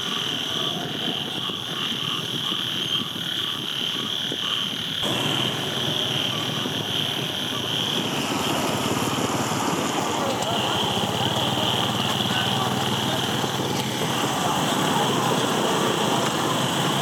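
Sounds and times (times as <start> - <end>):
broad rumbling noise: 0.0 - 17.0
frogs croaking in chorus: 0.0 - 17.0
high insect-like drone: 0.0 - 17.0.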